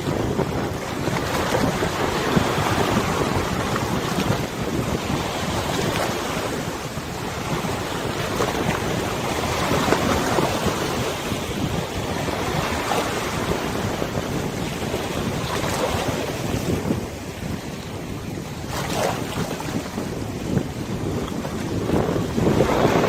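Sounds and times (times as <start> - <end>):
waves lapping on a river: 0.0 - 23.0
wind buffeting microphone: 0.0 - 23.0.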